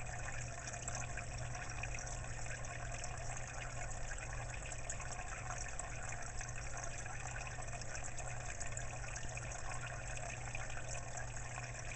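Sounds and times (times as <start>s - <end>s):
aquarium water bubbling: 0.0s - 11.9s
constant low hum: 0.0s - 11.9s.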